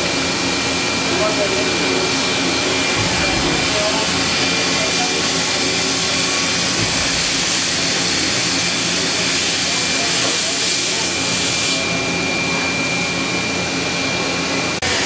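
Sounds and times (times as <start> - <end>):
machine spindle whirring: 0.0 - 15.0.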